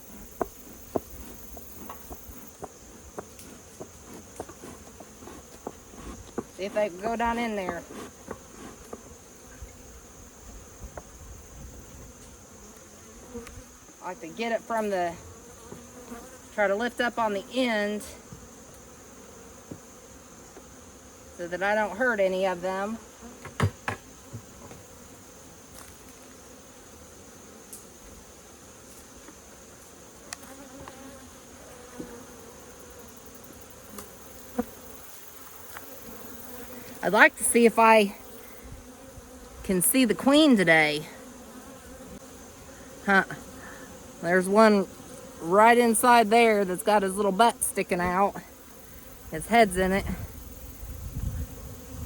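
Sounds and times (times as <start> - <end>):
bees buzzing: 0.0 - 52.0.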